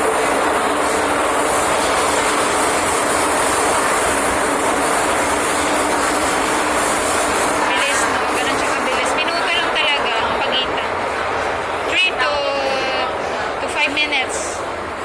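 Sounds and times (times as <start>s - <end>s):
train rushing rumble: 0.0s - 15.0s.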